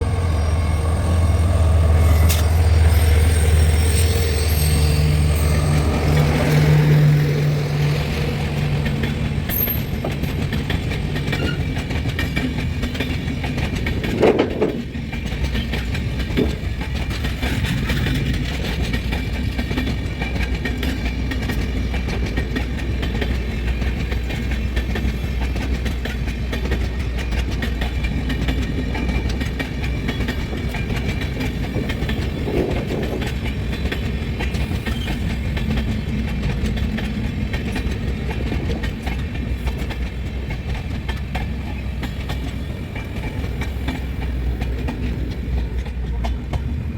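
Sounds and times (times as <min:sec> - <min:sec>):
diesel locomotive engine hum: 0:00.0 - 0:46.9
train clattering on rails: 0:00.0 - 0:46.9.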